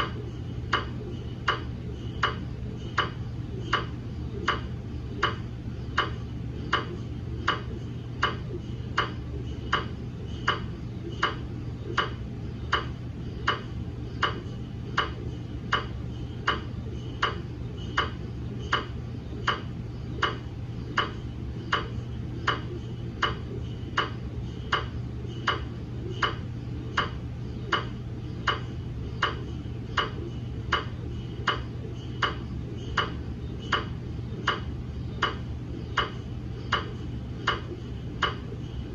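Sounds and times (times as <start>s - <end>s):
constant low hum: 0.0s - 38.9s
mri scanner ticking: 0.0s - 38.9s.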